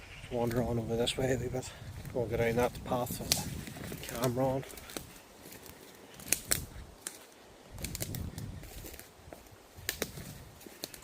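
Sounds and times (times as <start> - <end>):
footsteps through undergrowth: 0.1 - 11.0
twigs snapping underfoot: 2.0 - 11.0.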